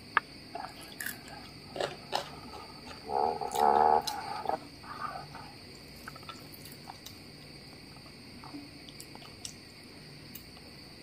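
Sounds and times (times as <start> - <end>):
faint high-pitched hum: 0.0 - 11.0.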